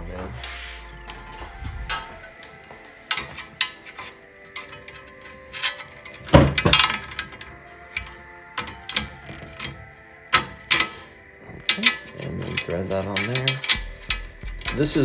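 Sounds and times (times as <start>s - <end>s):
metal hardware clinking: 1.0s - 15.0s.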